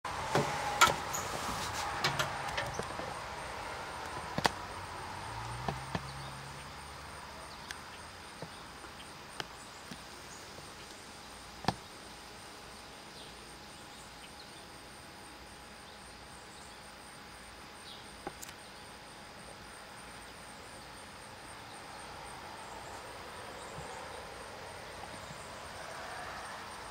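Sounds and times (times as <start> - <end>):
insects trilling: 0.1 - 26.9.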